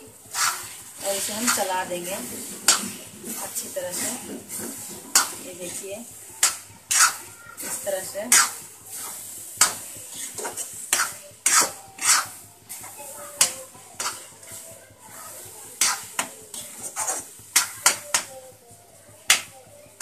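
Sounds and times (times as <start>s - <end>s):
metal spatula scraping iron pan: 0.3s - 14.6s, 15.3s - 18.2s.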